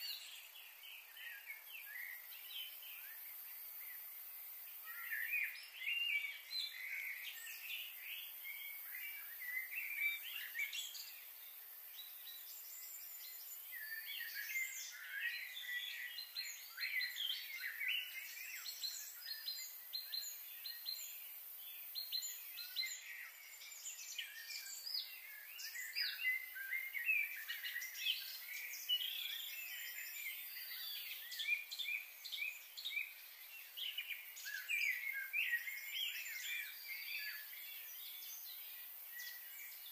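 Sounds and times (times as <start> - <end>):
faint high hiss: 0.0 - 39.9
small birds chirping: 0.0 - 39.9.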